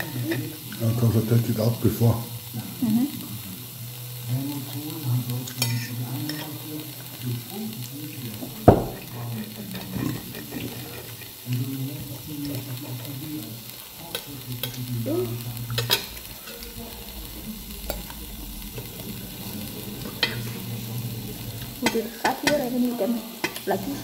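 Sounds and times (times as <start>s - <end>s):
sizzling hiss: 0.0s - 24.0s.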